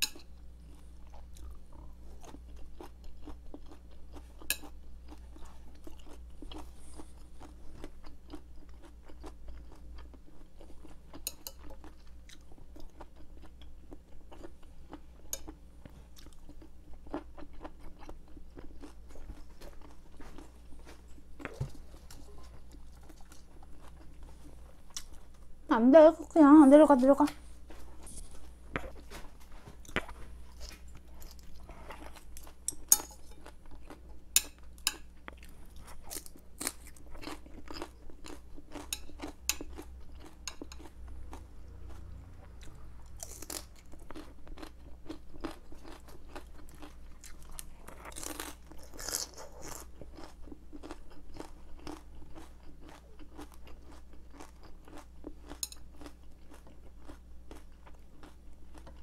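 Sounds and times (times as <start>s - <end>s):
chewing crisp vegetables: 0.0s - 25.5s, 26.1s - 59.0s.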